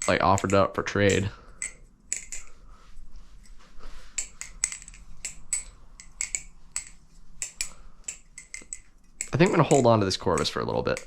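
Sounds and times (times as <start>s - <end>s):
balisong metallic clicks and clacks: 0.0s - 2.6s, 4.2s - 11.0s.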